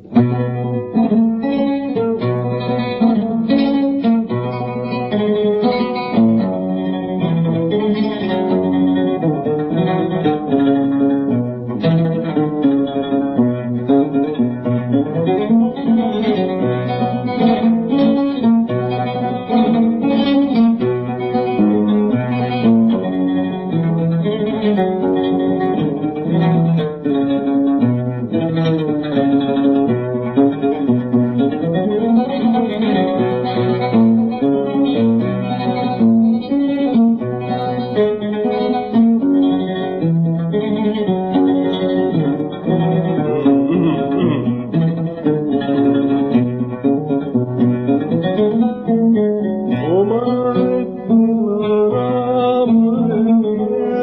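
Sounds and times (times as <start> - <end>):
oud playing quick notes: 0.0 - 54.0.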